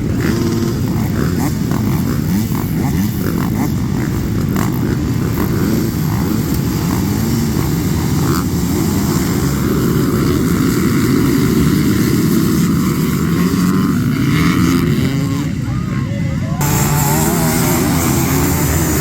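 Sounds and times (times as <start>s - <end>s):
dirt bike engine running hard: 0.0s - 19.0s.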